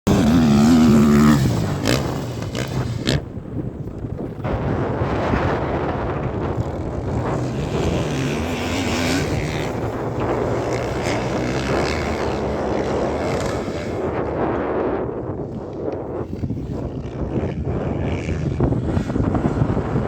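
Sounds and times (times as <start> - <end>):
motocross bike engines revving: 0.1 - 20.0.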